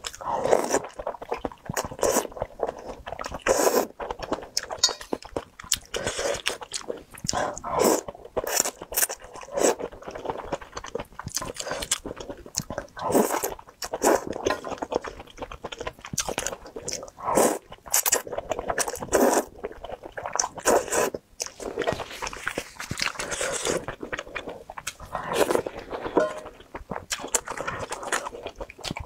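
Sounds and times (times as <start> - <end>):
noodle slurping: 0.0 - 15.7, 16.4 - 29.0
wet chewing: 0.0 - 29.0.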